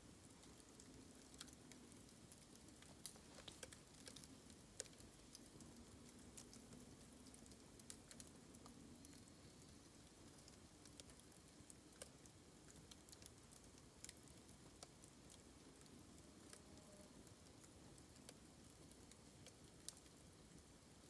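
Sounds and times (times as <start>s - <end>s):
bamboo fire crackling and popping: 0.0s - 21.0s.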